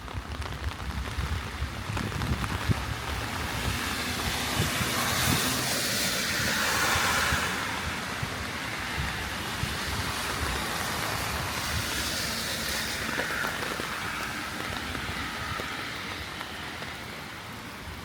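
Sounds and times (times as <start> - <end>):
heavy rain falling: 0.0 - 18.0
tyre hiss on wet road: 0.0 - 18.0.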